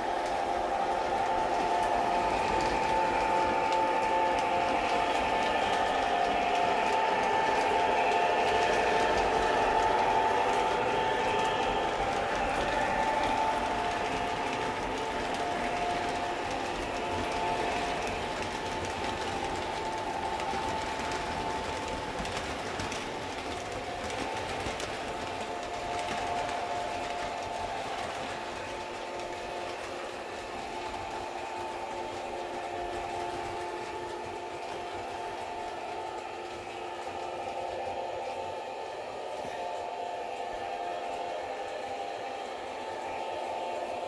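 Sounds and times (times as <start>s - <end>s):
model train motors whining: 0.0s - 44.0s
wheels ticking over track joints: 0.0s - 44.0s.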